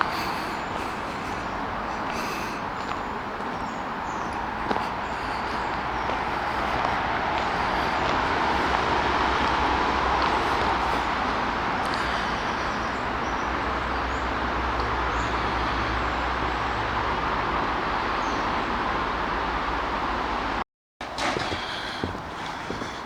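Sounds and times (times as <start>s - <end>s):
distant road traffic: 0.0s - 23.0s.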